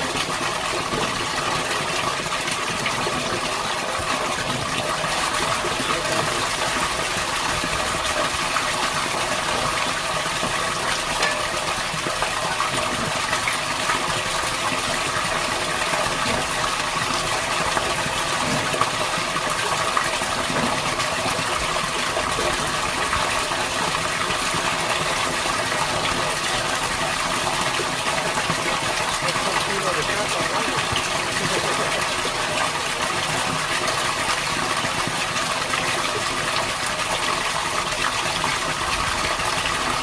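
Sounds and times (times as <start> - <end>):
water gushing: 0.0 - 40.0.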